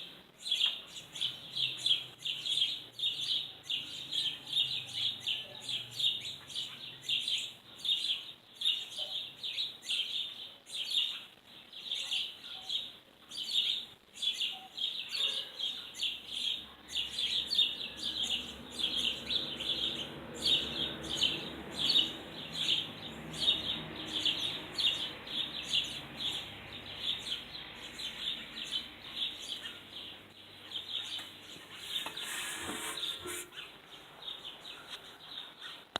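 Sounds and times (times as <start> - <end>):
bird chirping: 0.0 - 35.9.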